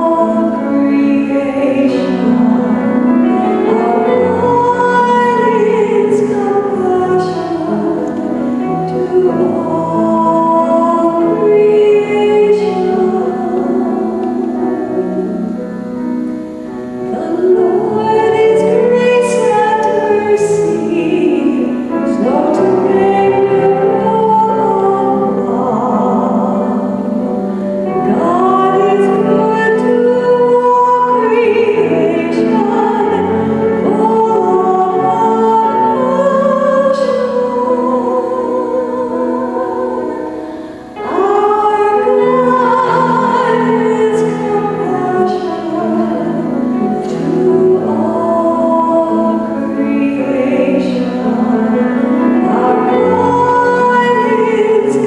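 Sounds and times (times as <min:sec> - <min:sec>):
instrumental accompaniment: 0:00.0 - 0:55.0.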